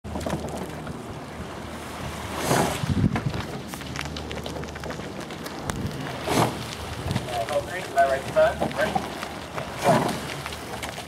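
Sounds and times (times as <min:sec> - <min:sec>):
wind buffeting microphone: 0:00.1 - 0:11.0.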